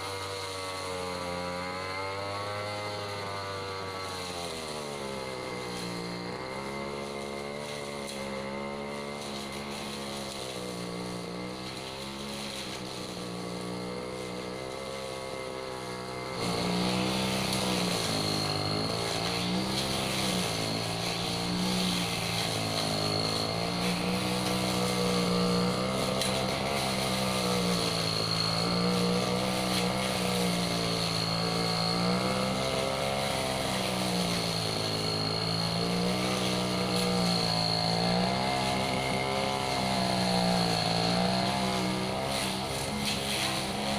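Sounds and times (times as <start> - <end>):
brush cutter engine running: 0.0 - 43.9.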